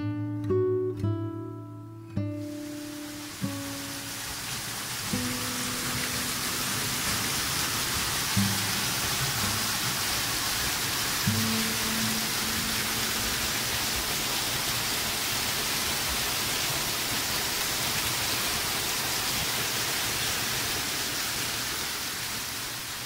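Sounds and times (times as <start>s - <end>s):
waterfall splashing on rocks: 2.4s - 23.0s.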